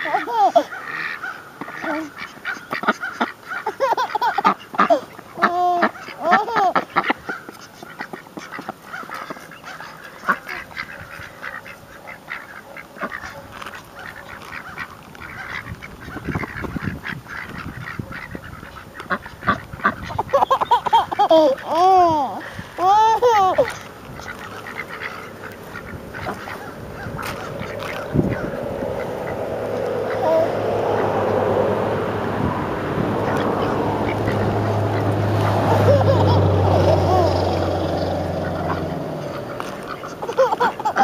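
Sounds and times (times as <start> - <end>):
ducks quacking: 0.0 - 41.0.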